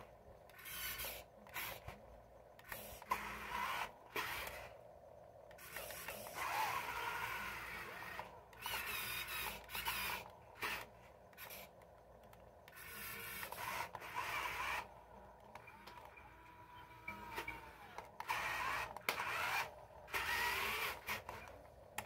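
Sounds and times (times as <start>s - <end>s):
toy electric motors whirring: 0.0s - 4.8s, 5.4s - 22.0s.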